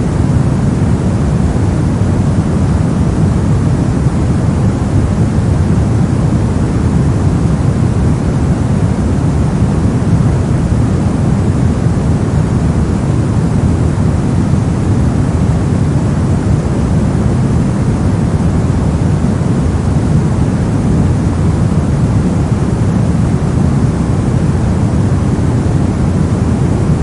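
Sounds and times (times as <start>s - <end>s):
brown noise: 0.0s - 27.0s.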